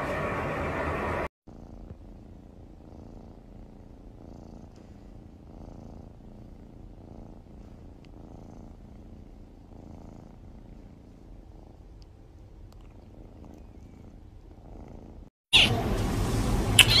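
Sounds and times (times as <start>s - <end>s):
kitten purring: 1.5s - 15.3s.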